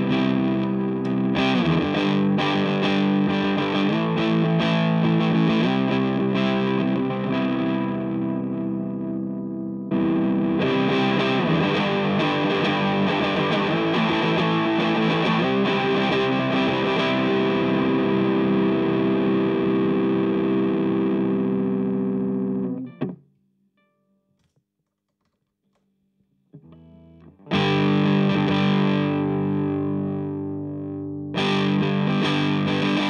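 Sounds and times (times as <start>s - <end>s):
distorted electric guitar chords: 0.0s - 23.2s, 26.6s - 33.0s.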